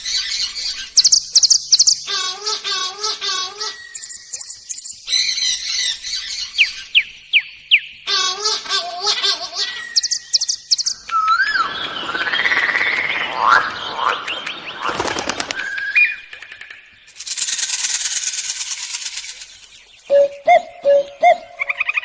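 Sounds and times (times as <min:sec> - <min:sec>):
bird calls and songs: 0:00.0 - 0:22.0.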